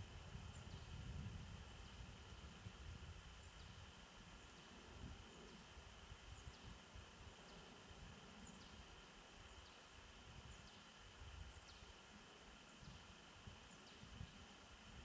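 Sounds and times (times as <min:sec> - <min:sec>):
faint low wind rumble: 0:00.0 - 0:15.0.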